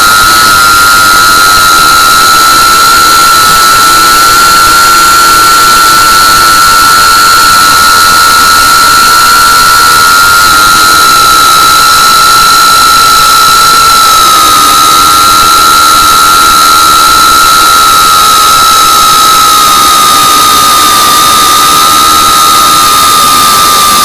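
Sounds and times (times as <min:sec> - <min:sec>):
drone motors high-pitched whine: 0:00.0 - 0:24.0.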